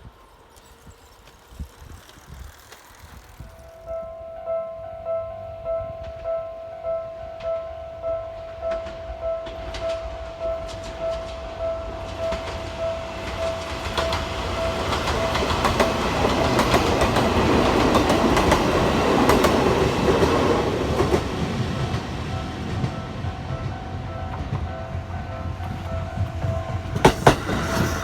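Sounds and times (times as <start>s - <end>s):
train rumble and wheel clicks: 0.0s - 28.0s
level crossing warning bell: 3.8s - 27.3s.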